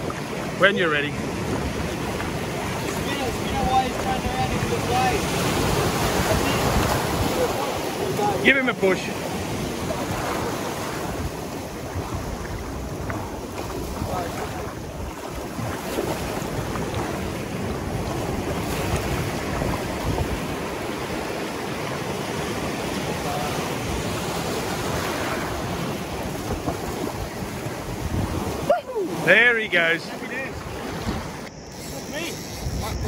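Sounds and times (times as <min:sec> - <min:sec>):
surf washing over sand: 0:00.0 - 0:33.0
wind buffeting microphone: 0:00.0 - 0:33.0.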